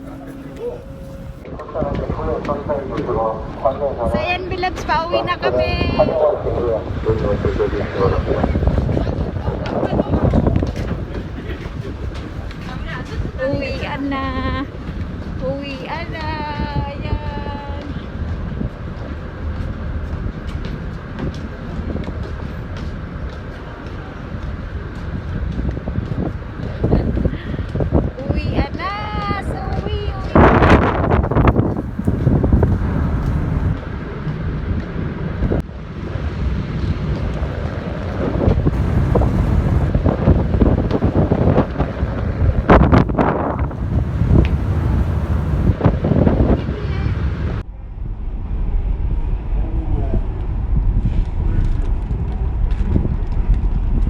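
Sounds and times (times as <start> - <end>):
moving vehicle rumble: 0.0 - 28.4, 29.4 - 54.0
wind buffeting microphone: 0.0 - 54.0.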